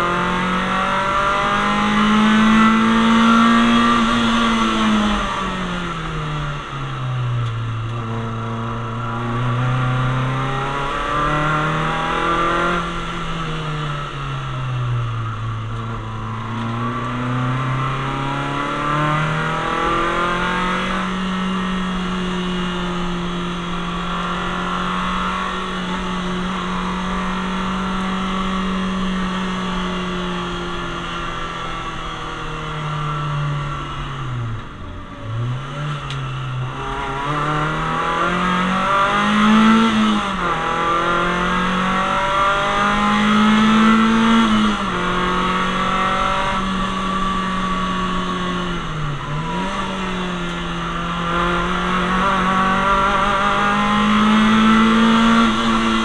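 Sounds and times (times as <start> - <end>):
car engine from inside cabin: 0.0 - 56.0.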